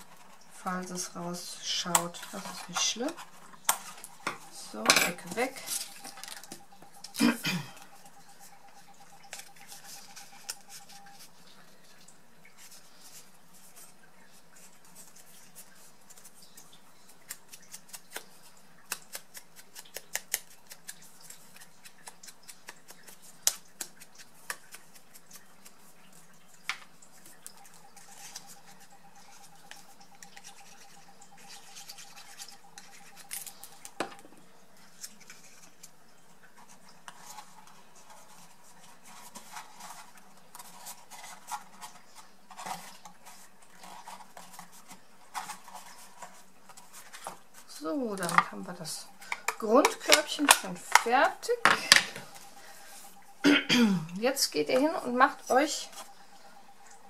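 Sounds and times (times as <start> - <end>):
card stock rustling: 0.0 - 12.0, 12.6 - 53.2
faint steady hum: 0.0 - 57.0.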